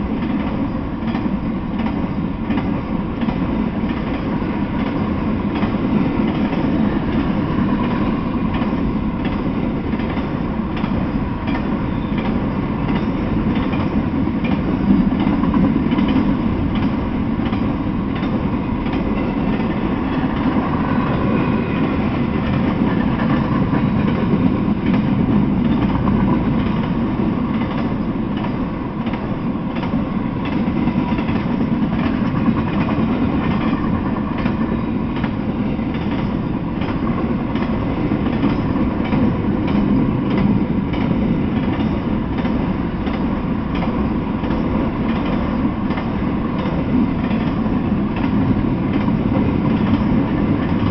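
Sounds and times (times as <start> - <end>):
train wheels rumbling on rails: 0.0 - 50.9
wheels clacking over rail joints: 0.1 - 50.9.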